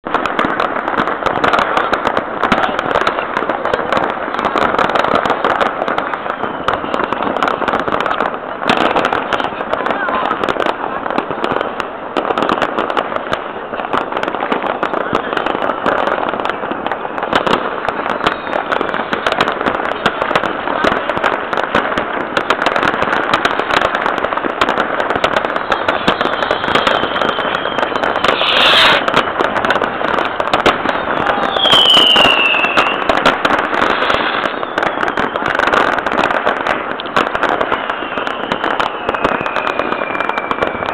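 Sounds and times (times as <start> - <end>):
firecracker and rocket bangs: 0.0 - 40.9
loud firework bang: 0.0 - 40.9
whistling rockets: 0.1 - 40.9.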